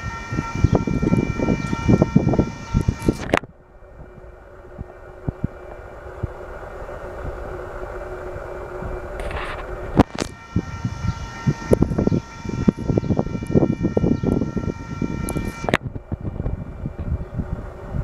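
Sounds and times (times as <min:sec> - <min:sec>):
freight cars rumbling and clanking: 0:00.0 - 0:18.0
steady high multi-pitch tone: 0:00.0 - 0:18.0.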